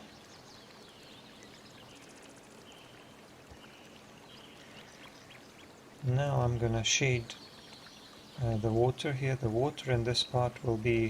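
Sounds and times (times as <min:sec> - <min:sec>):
distant bird chirps: 0:00.0 - 0:09.2
faint background hiss: 0:00.0 - 0:11.0.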